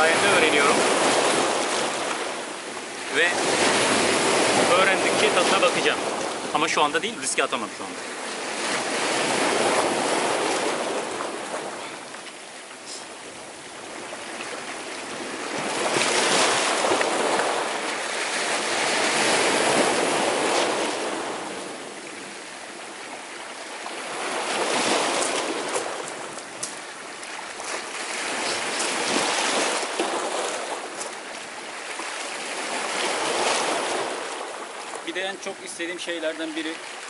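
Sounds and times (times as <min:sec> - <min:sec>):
surf breaking over rocks: 0:00.0 - 0:23.0, 0:23.7 - 0:37.0.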